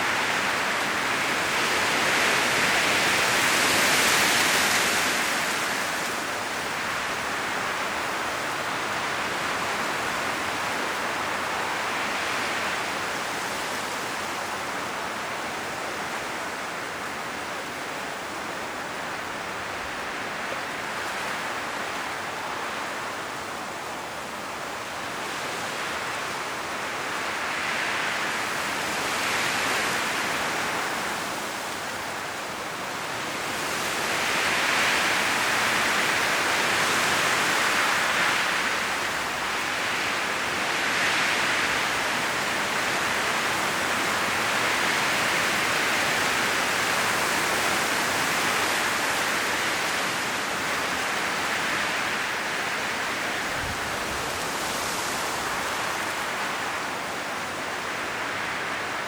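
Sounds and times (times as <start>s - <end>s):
wind rustling tree leaves: 0.0s - 59.0s.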